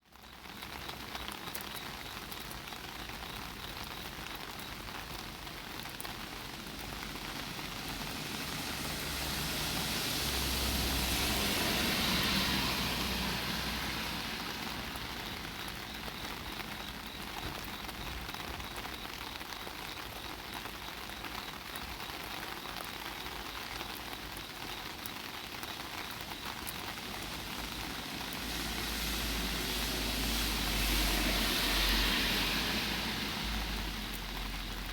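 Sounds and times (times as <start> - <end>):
rain pattering on umbrella: 0.0 - 34.9
car passing on wet road: 0.1 - 34.9.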